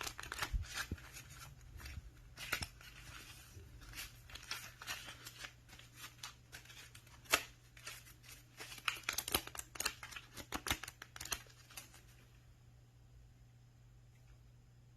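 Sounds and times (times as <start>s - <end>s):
faint low hum: 0.0s - 14.9s.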